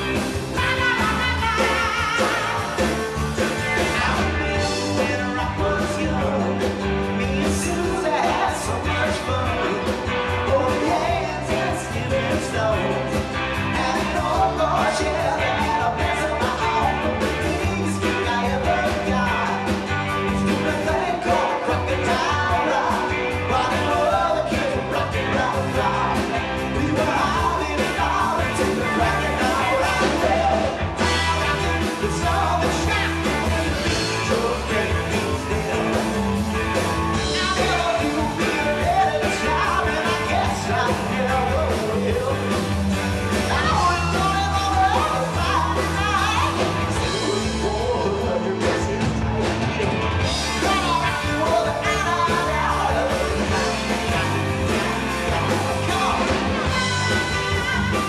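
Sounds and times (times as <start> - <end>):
live rock band playing: 0.0 - 58.0
singer singing: 0.0 - 58.0.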